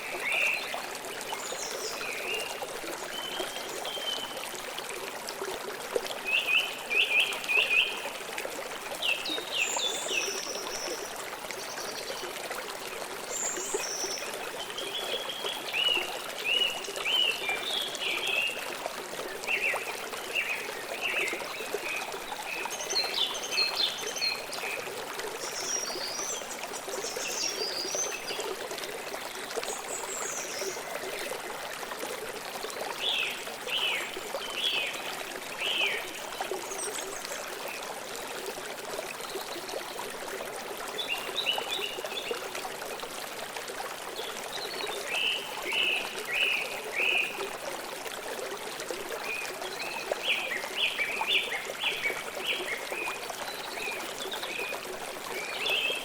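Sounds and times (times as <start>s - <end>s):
river water flowing and trickling: 0.0s - 56.0s.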